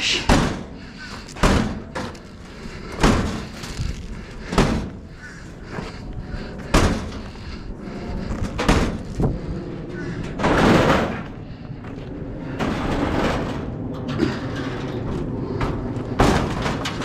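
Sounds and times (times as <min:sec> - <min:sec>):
heavy machines banging and thudding: 0:00.0 - 0:17.0.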